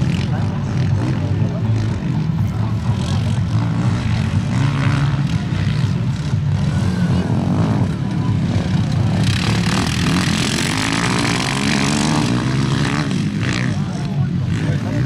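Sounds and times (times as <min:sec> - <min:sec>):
racing vehicle engines: 0:00.0 - 0:15.0.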